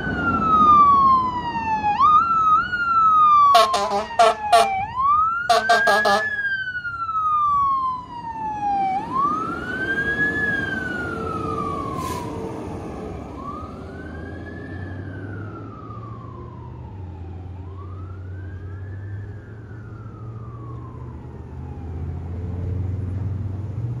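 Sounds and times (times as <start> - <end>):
fire engine siren wailing: 0.0 - 24.0.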